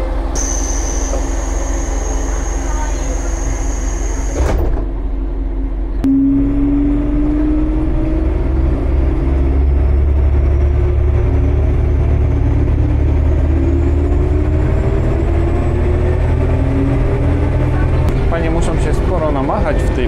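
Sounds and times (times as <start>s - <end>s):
diesel railcar engine rumble: 0.0s - 20.0s.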